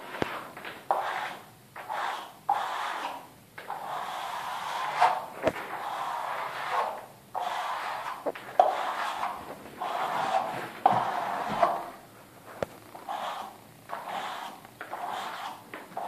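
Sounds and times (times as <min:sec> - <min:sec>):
trowel scraping plastered wall: 0:00.1 - 0:12.0, 0:13.0 - 0:16.0.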